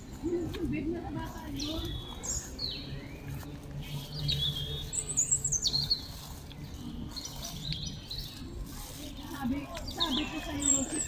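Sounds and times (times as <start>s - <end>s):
bird chirping and warbling: 1.5s - 11.0s.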